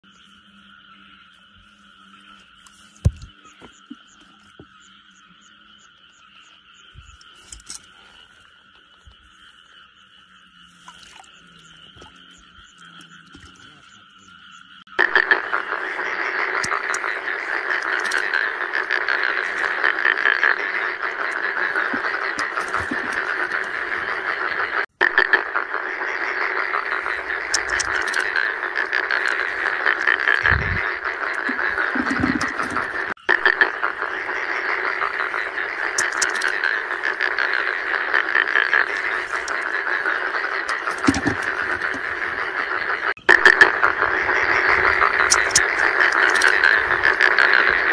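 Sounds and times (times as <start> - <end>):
frogs croaking chorus: 0.0 - 47.9.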